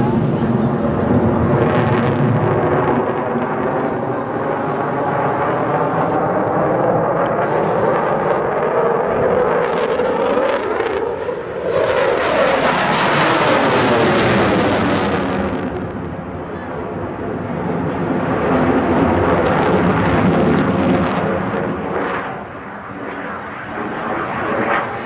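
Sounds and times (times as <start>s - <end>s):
fighter jet engine roar: 0.0s - 25.0s.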